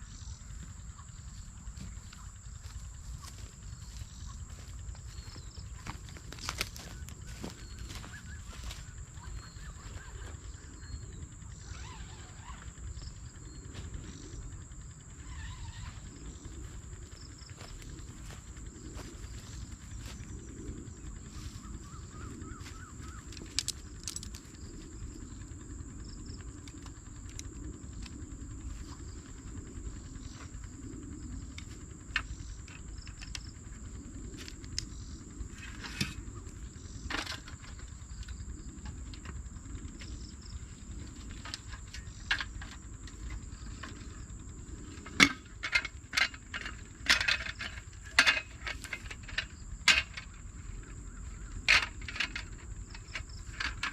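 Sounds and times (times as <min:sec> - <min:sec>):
high insect drone: 0:00.0 - 0:53.9
low background rumble: 0:00.0 - 0:53.9.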